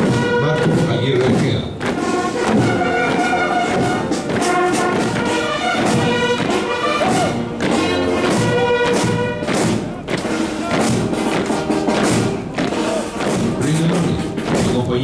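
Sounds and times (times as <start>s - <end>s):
brass band playing a march: 0.0s - 15.0s
drum thuds on the beat: 0.0s - 15.0s.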